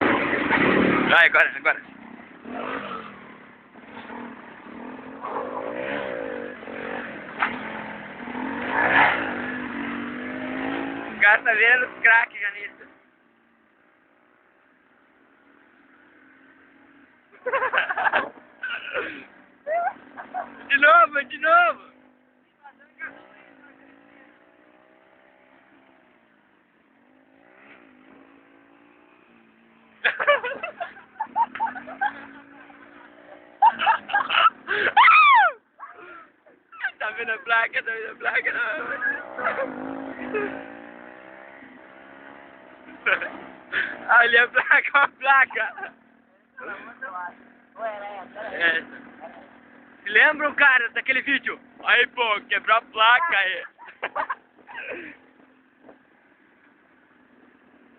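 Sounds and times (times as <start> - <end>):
two-stroke motorcycle engine revving: 0.0 - 13.2, 15.2 - 35.0, 36.1 - 57.9.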